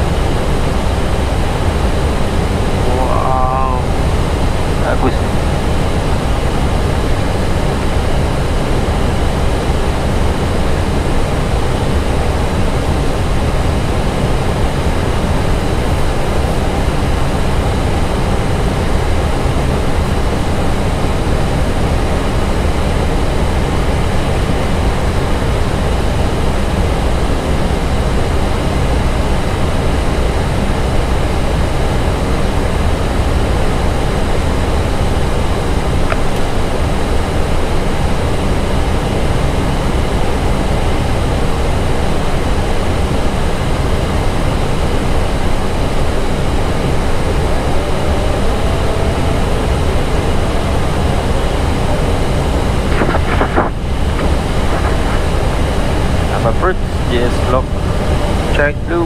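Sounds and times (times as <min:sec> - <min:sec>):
airflow and ventilation rush: 0:00.0 - 0:59.0
jet engines droning: 0:00.0 - 0:59.0.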